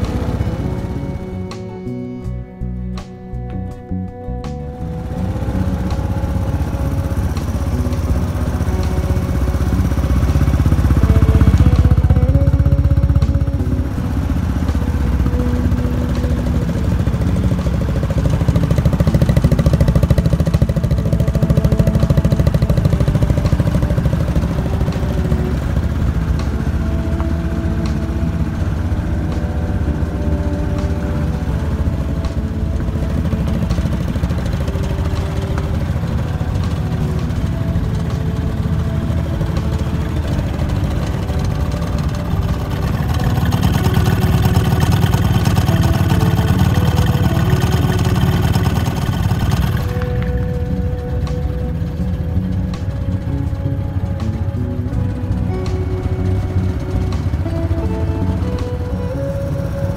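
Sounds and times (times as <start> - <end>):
scooter engine idling: 0.0 - 3.1, 4.1 - 59.9.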